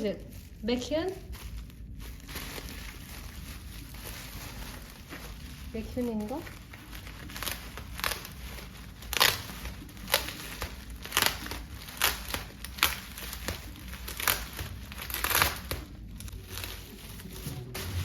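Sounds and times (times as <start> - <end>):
packaging crinkling: 0.0 - 18.0.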